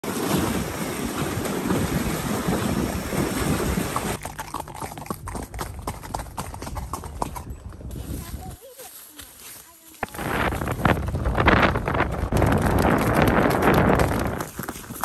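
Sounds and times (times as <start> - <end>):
horse hoofbeats: 0.2 - 15.0.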